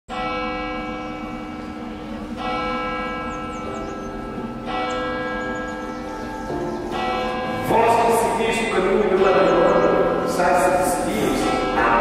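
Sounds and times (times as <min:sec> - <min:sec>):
church bells ringing: 0:00.1 - 0:12.0.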